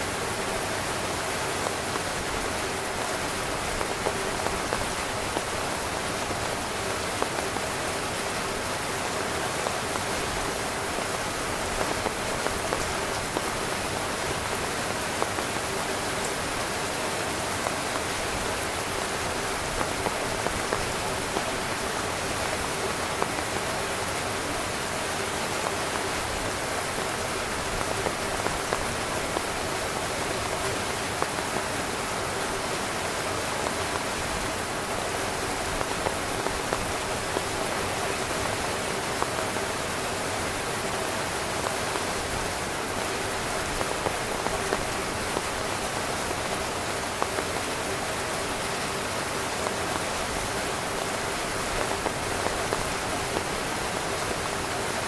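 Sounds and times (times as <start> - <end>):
heavy rain on tent fabric: 0.0 - 55.0.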